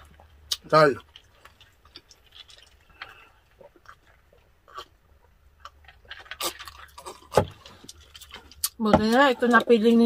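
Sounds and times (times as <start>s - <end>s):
sipping and swallowing: 0.0s - 8.8s.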